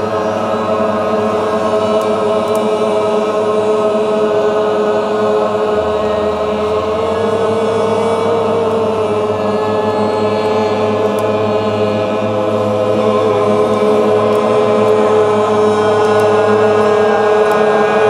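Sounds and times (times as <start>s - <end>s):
group of voices toning in unison: 0.0s - 18.0s.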